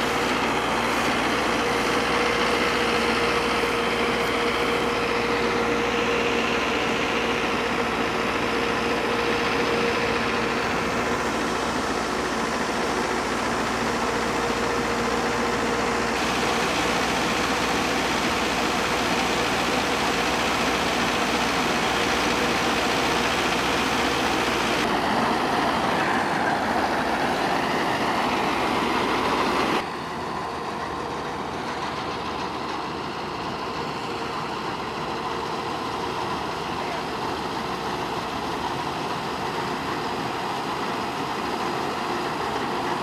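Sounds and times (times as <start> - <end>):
auger pouring grain: 0.0 - 43.0
combine harvester running: 0.0 - 43.0.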